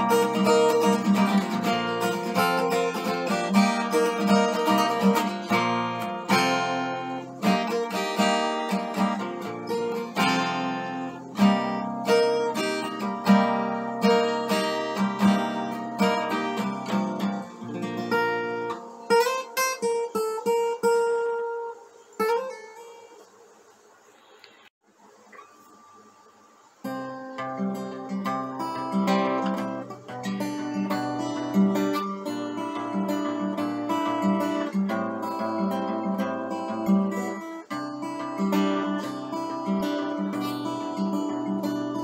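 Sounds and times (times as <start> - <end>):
acoustic guitar playing: 0.0 - 23.6, 25.2 - 42.0.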